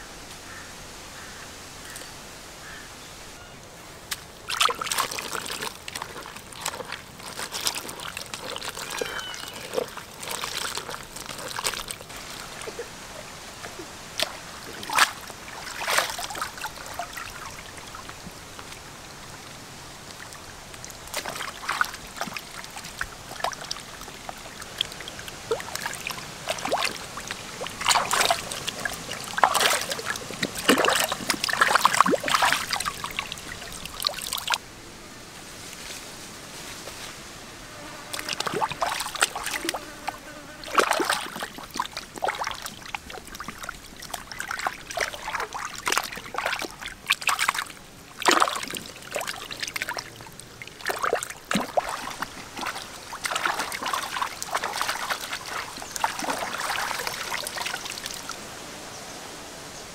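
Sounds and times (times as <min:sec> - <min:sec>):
water trickling and splashing: 0:03.7 - 0:34.7, 0:37.9 - 0:59.9.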